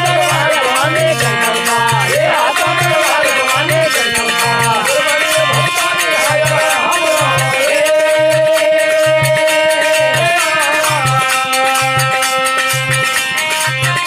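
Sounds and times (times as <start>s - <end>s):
man singing: 0.0s - 13.2s
harmonium chords: 0.0s - 14.0s
jingling percussion: 0.0s - 14.0s.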